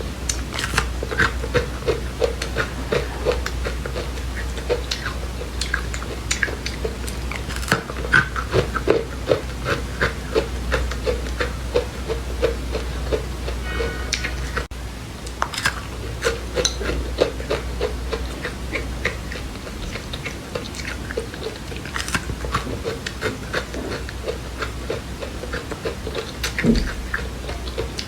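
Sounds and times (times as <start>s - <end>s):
chewing crunchy seeds: 0.0s - 28.0s.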